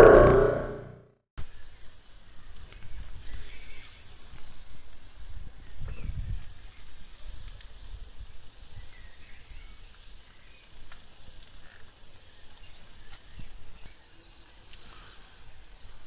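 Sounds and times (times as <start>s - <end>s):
meat sizzling on a grill: 1.4s - 16.0s
charcoal crackling: 1.7s - 16.0s.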